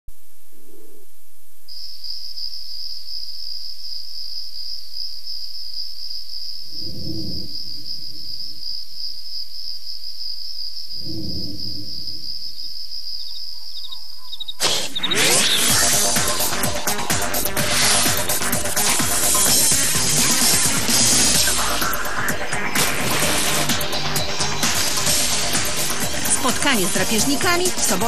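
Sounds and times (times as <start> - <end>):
high insect drone: 1.7 - 28.0.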